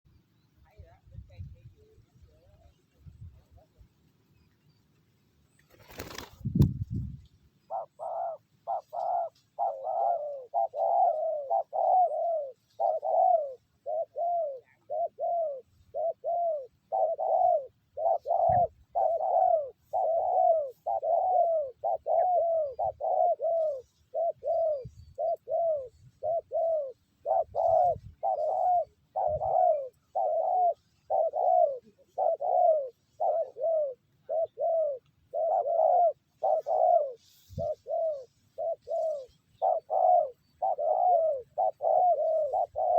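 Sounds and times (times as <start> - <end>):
dove cooing: 7.6 - 42.9.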